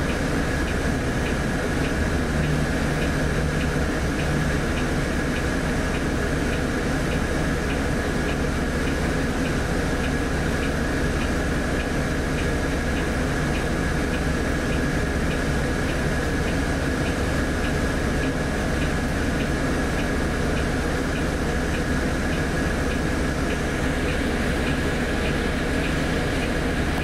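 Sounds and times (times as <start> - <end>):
diesel bus engine running: 0.0 - 27.0
light regular ticking: 0.1 - 27.0.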